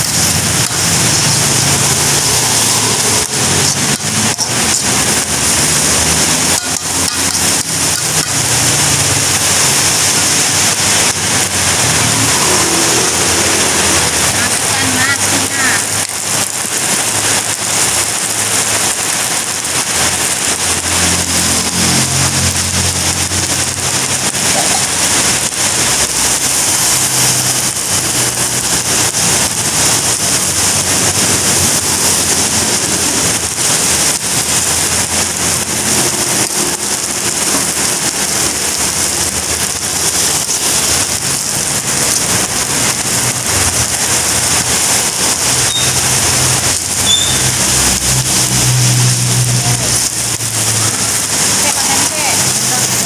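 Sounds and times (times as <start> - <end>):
heavy rain hissing: 0.0 - 53.0
rice sizzling in a wok: 0.1 - 53.0.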